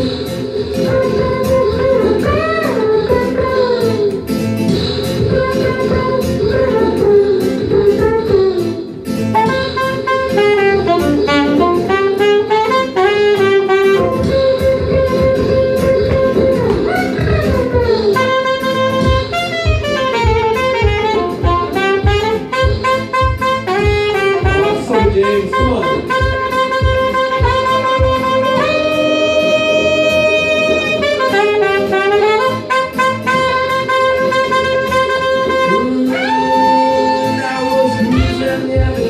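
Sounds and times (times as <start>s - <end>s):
percussive beat: 0.0s - 39.0s
saxophone solo: 0.0s - 39.0s.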